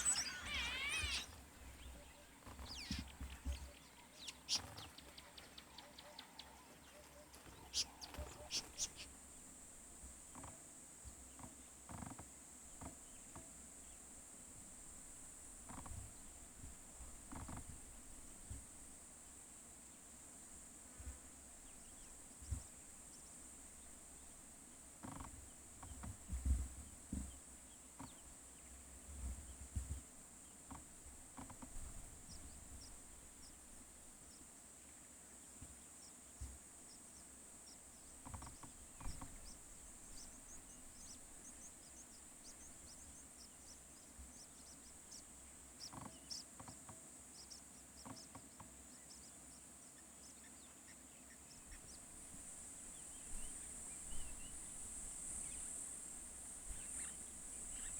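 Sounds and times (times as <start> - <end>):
insects droning: 0.0 - 57.9.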